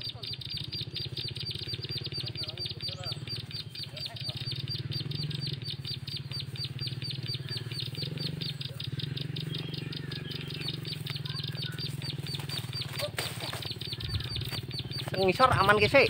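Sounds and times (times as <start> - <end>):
high bird chirping: 0.0 - 16.0
steady low hum: 0.0 - 16.0.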